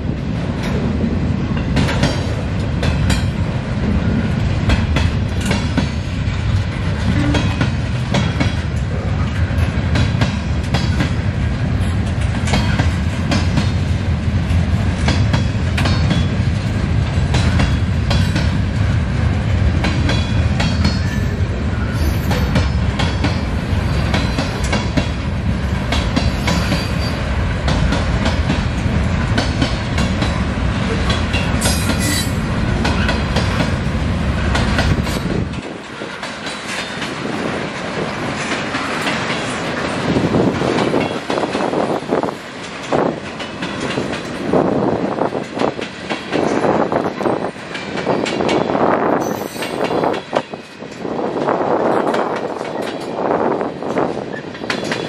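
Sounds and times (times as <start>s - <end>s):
clickety-clack of train wheels: 0.0s - 55.0s.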